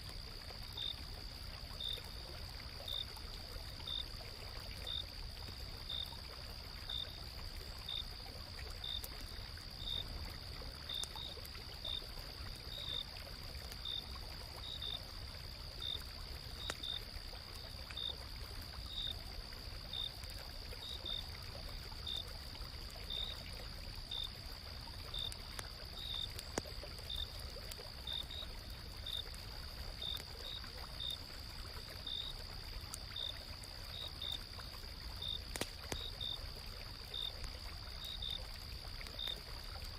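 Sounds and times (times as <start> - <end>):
faint campfire crackles: 0.0 - 39.9.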